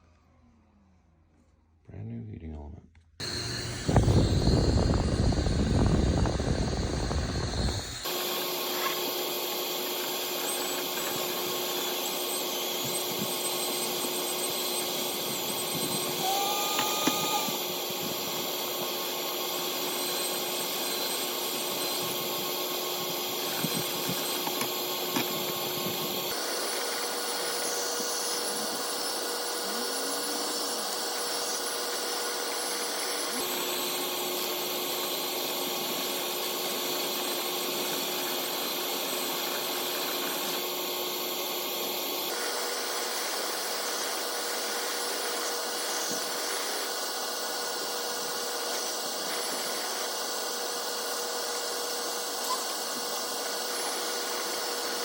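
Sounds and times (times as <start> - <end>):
motor-driven machine running: 3.2 - 55.0.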